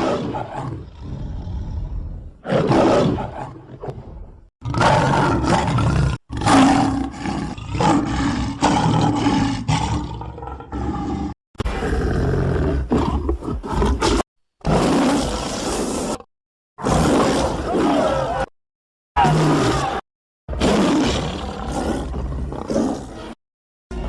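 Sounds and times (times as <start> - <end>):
lion roaring: 0.0 - 16.2, 16.8 - 18.5, 19.2 - 24.0.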